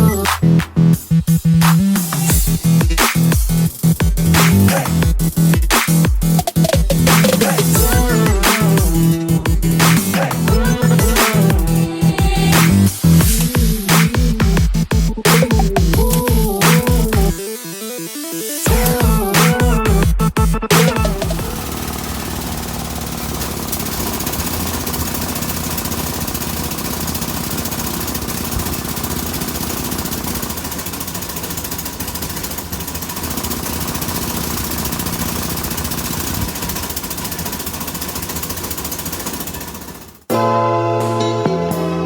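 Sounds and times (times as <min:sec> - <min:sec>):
air impact tool hammering: 0:01.6 - 0:17.3, 0:20.7 - 0:40.3.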